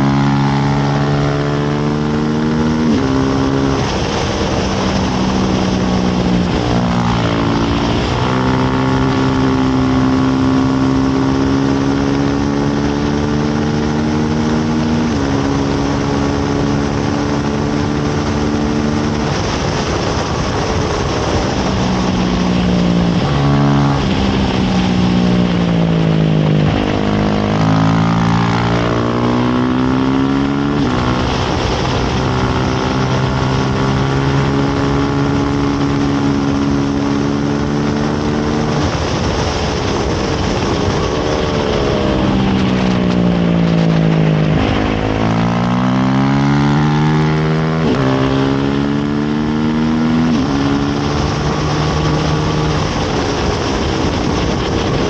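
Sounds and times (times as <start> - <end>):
racing motorcycle engine accelerating: 0.0 - 55.0
wind rush on microphone: 0.0 - 55.0.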